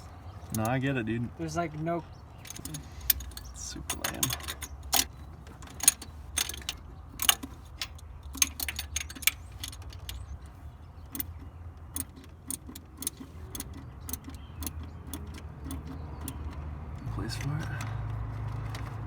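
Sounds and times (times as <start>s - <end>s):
metallic clicks of tools: 0.4s - 0.8s, 2.4s - 10.5s, 11.1s - 18.9s.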